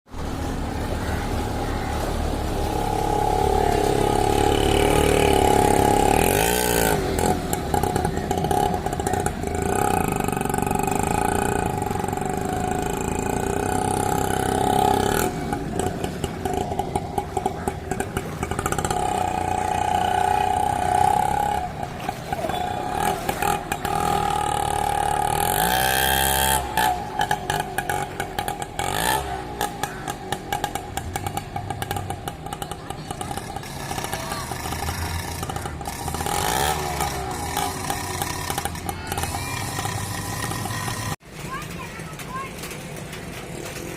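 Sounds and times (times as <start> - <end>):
engine running: 0.1 - 43.9.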